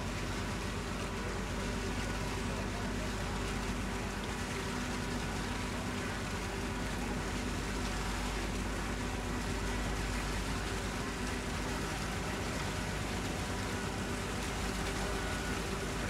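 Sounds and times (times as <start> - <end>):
churned water rushing: 0.0 - 16.0.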